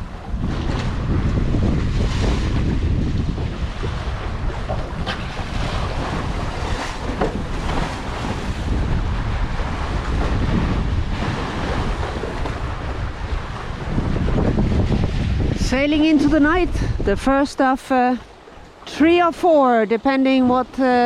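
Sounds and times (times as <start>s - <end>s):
sea water splashing along hull: 0.0s - 21.0s
wind buffeting microphone: 0.0s - 21.0s.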